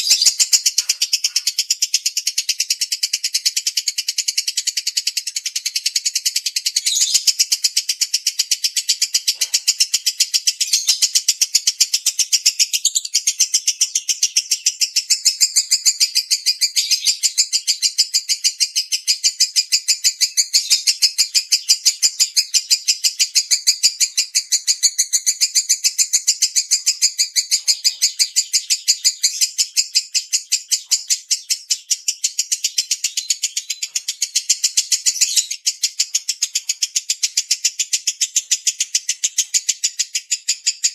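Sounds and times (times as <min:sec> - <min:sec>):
lovebird chattering: 0:00.0 - 0:40.9.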